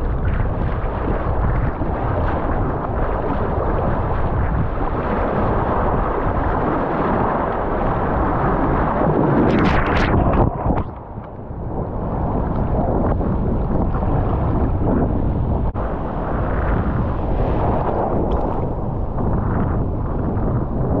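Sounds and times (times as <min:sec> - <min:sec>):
surf water churning: 0:00.0 - 0:21.0
wave washing over camera: 0:00.0 - 0:21.0
wind on microphone: 0:00.0 - 0:21.0.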